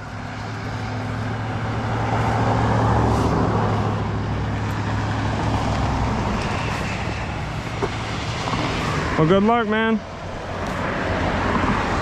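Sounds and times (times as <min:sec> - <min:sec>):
road traffic: 0:00.0 - 0:12.0
vehicle passing with engine rumble: 0:00.0 - 0:12.0.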